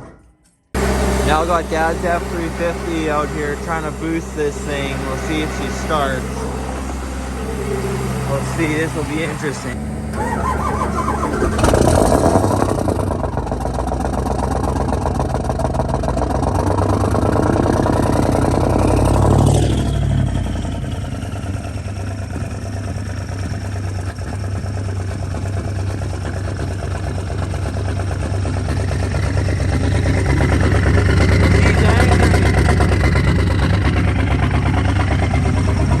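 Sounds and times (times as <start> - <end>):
diesel engine starting and idling: 0.7 - 36.0.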